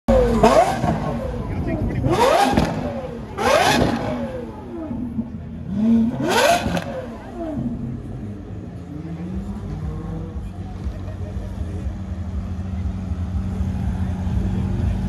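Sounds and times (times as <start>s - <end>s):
sports car engine revving: 0.1s - 15.0s.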